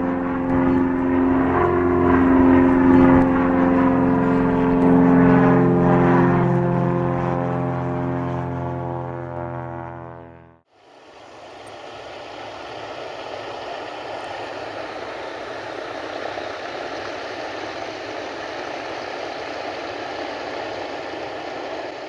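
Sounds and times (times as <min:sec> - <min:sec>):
floatplane engine and propeller drone: 0:00.0 - 0:22.0.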